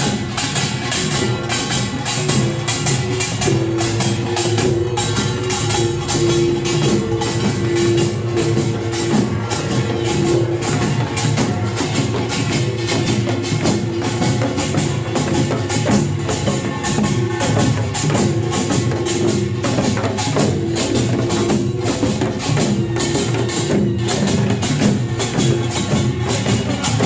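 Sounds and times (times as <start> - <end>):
barrel drums: 0.0 - 27.0
hourglass drums: 0.0 - 27.0
large gongs: 0.0 - 27.0
small gongs clanging fast: 0.0 - 27.0.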